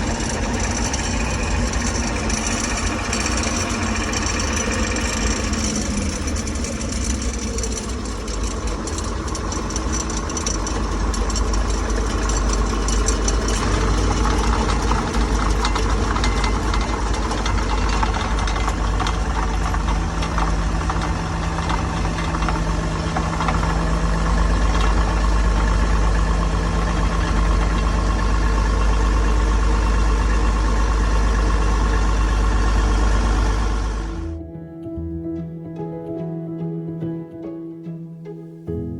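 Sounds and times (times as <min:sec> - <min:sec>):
steady hum: 0:00.0 - 0:34.4
combine harvester running: 0:00.0 - 0:34.5.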